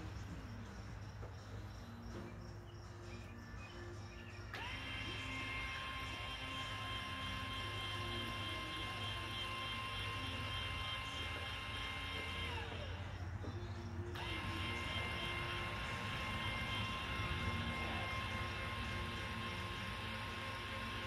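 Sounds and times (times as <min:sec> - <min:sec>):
electric actuator motor whine: 0:03.9 - 0:21.0.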